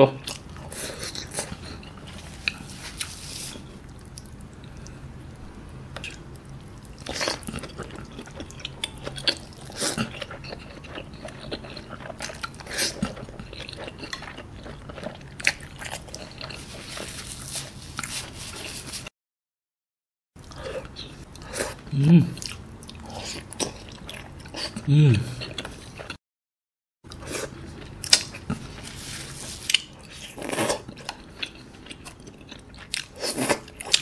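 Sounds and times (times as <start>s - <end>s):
person chewing: 0.2s - 19.1s, 20.4s - 26.2s, 27.1s - 34.0s.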